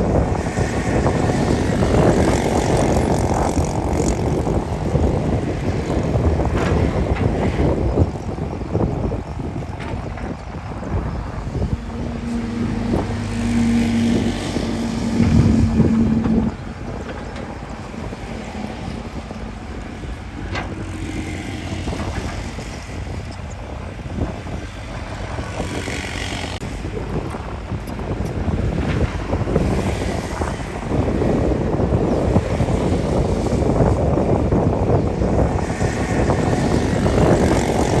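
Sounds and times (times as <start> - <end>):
heavy machinery diesel engine: 0.0 - 38.0.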